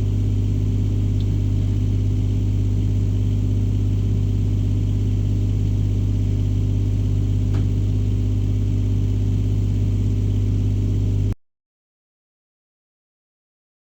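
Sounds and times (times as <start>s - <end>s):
engine running steadily: 0.0s - 11.4s.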